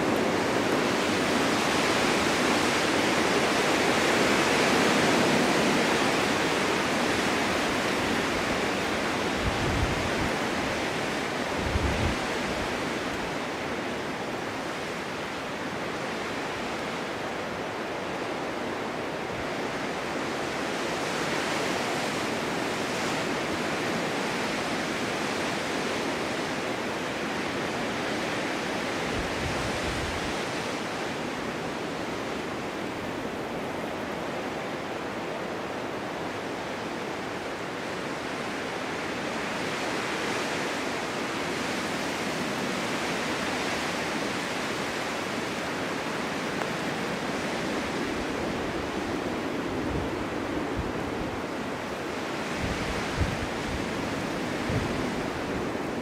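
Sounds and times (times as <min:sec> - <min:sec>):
wind rushing through forest: 0:00.0 - 0:56.0.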